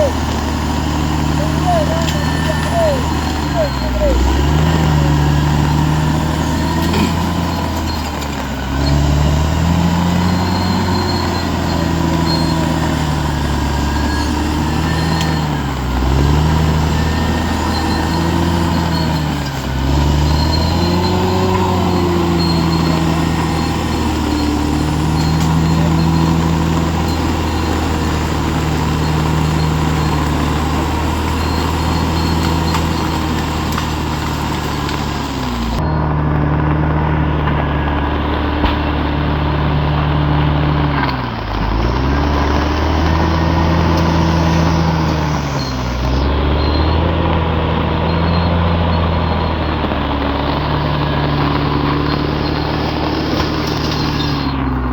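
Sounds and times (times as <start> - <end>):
bulldozer diesel engine under load: 0.0 - 54.9.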